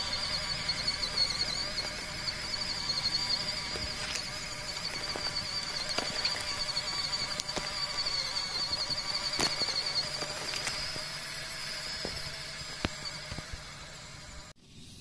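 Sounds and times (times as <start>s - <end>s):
leaves and twigs crackling: 0.0s - 13.8s
high-pitched motor whine: 0.0s - 15.0s.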